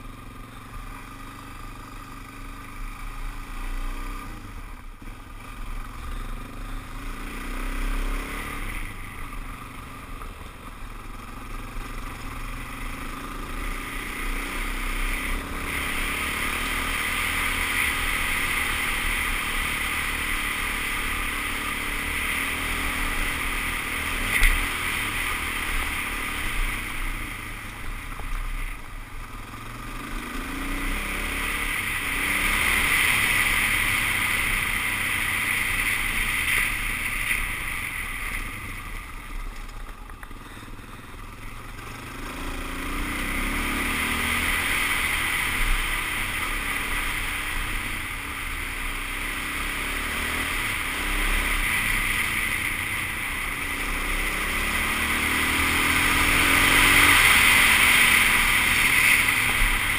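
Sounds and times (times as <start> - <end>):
motorcycle engine running: 0.0 - 59.9
wind and tyre noise: 0.0 - 59.9.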